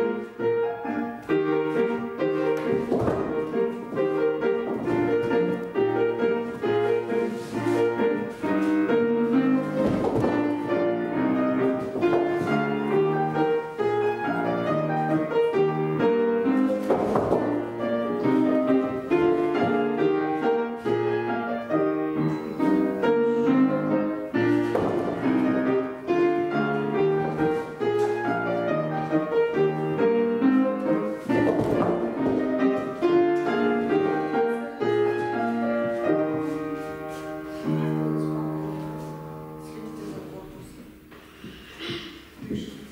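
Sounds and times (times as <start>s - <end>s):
classical piano playing: 0.0s - 42.9s.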